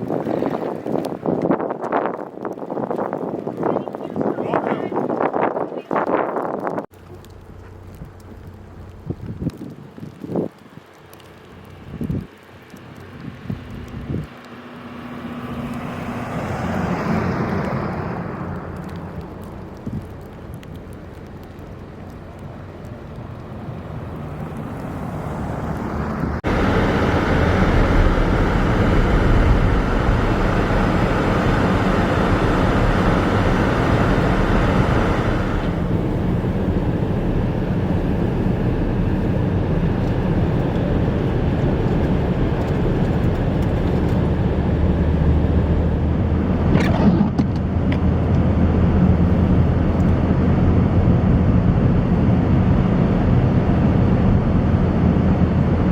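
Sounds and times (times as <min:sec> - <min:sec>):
vehicle tyre noise: 0:00.0 - 0:55.9
wind: 0:00.0 - 0:55.9.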